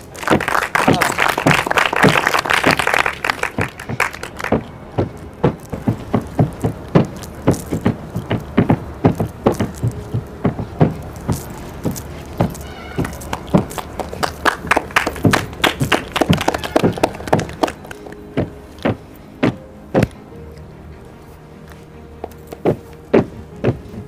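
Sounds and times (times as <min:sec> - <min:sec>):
bare feet stamping on a mat: 0:00.0 - 0:20.2, 0:22.2 - 0:24.0.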